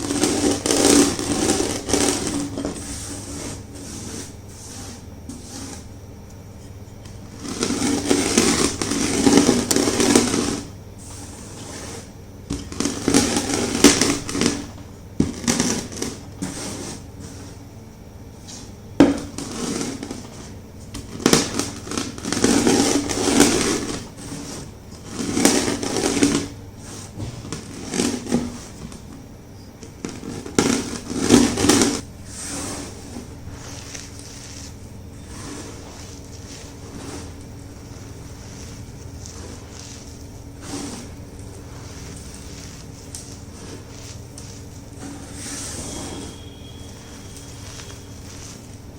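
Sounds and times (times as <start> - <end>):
rolling pin crushing chalk: 0.0 - 17.7, 18.4 - 48.9.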